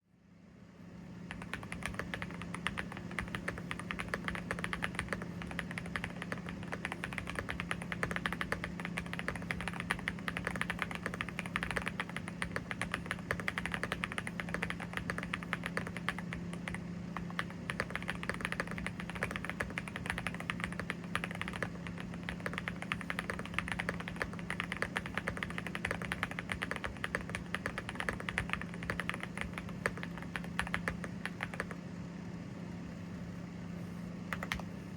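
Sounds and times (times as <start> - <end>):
steady low hum: 0.0 - 34.9
fast typing on mechanical keyboard: 1.3 - 31.8, 34.3 - 34.6.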